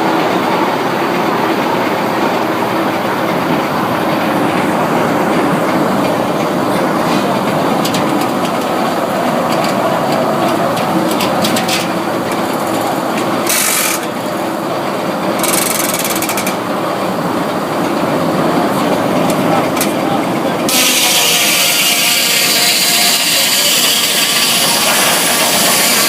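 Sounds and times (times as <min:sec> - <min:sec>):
sawmill machinery clattering: 0:00.0 - 0:26.0.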